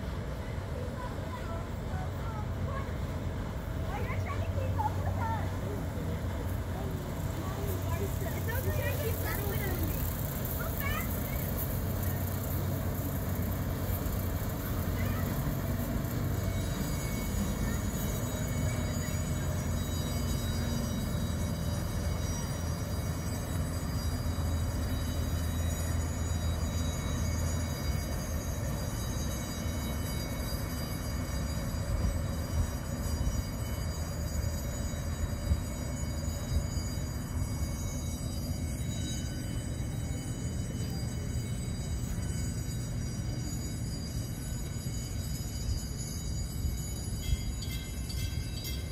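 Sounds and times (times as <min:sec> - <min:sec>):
boat diesel engine droning: 0:00.0 - 0:48.9.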